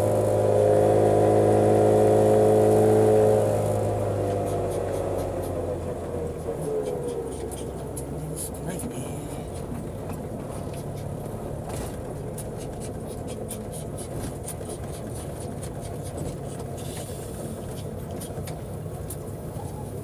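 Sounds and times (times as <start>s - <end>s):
small two-stroke car engine: 0.0s - 20.0s.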